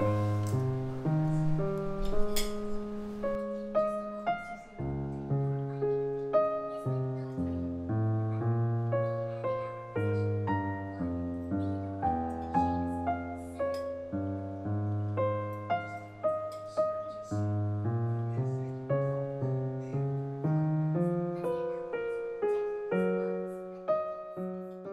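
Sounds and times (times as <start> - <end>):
solo piano music: 0.0 - 24.9.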